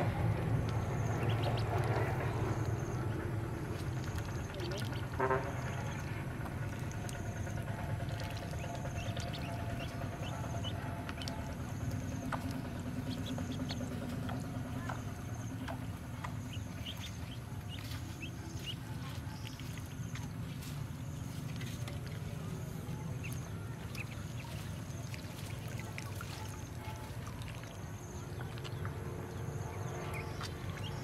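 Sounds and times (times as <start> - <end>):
steady low hum: 0.0 - 31.0
ducklings peeping: 0.3 - 31.0.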